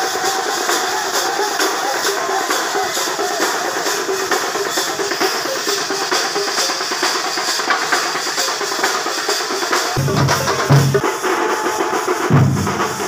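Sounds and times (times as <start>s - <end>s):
fast percussion group drumming: 0.0s - 13.0s.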